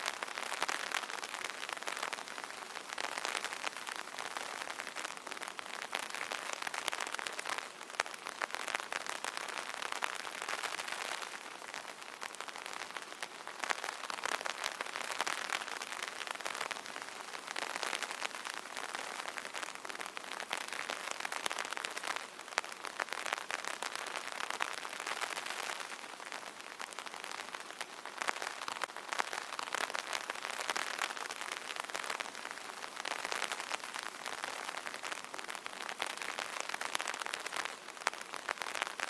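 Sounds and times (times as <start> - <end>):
rain pattering on umbrella: 0.0 - 39.0.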